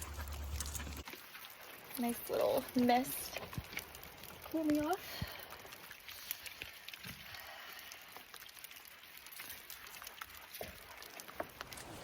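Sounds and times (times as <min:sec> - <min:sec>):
light ticks and patters: 0:00.0 - 0:12.0.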